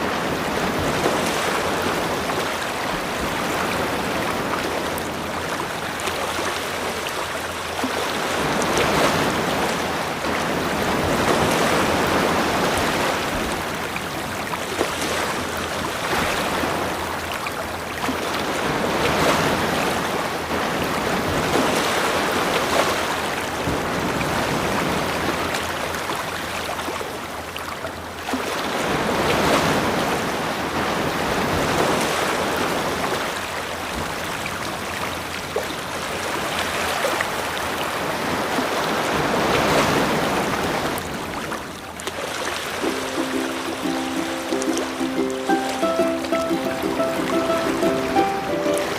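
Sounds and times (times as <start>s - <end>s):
waves washing in: 0.0s - 48.9s.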